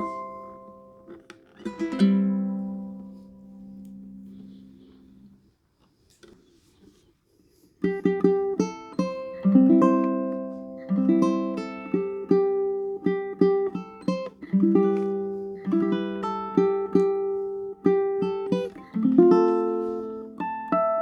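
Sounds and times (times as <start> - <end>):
plucked string instrument: 0.0 - 5.4, 7.8 - 21.0.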